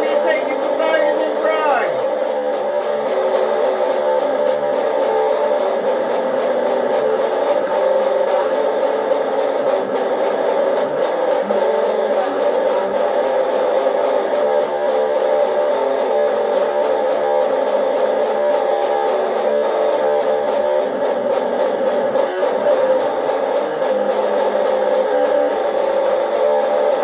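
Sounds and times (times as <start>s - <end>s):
electric guitar playing: 0.0s - 27.0s.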